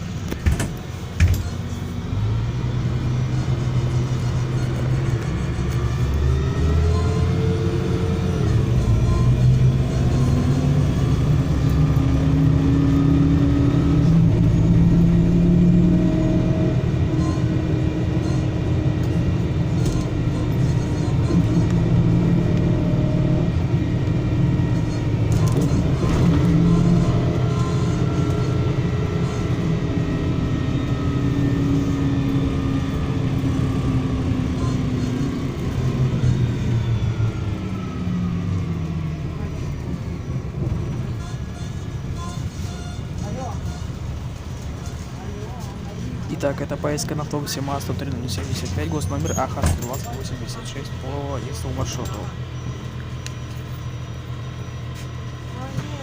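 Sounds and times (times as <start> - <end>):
bus engine accelerating: 0.0 - 56.0.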